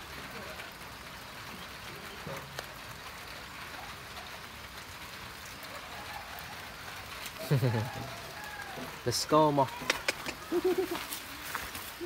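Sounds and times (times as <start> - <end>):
light rain on foliage: 0.0 - 12.0.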